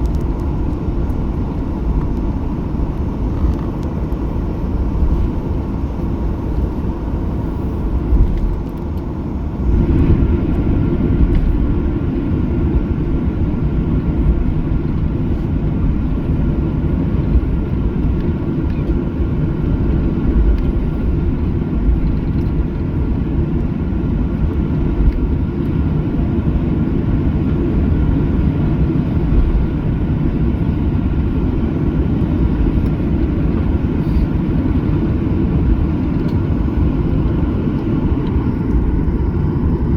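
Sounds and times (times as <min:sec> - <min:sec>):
faint steady hum: 0:00.0 - 0:39.9
low cabin rumble: 0:00.0 - 0:39.9.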